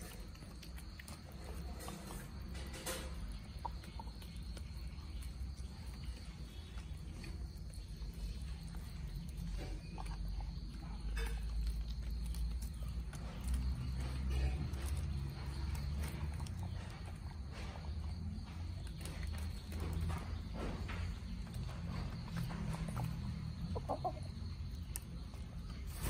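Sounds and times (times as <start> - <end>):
chickens pecking on stony ground: 0.0 - 26.0.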